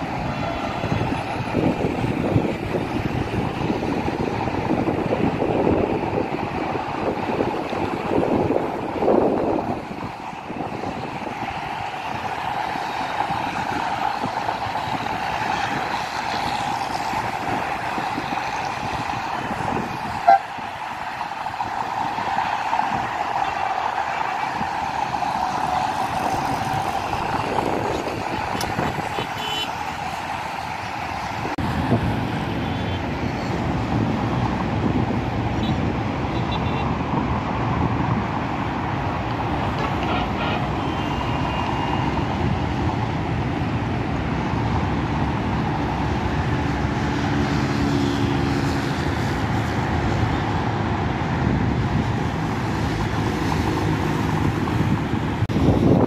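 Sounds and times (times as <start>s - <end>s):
heavy vehicles rumbling: 0.0s - 56.0s
highway traffic passing: 0.0s - 56.0s.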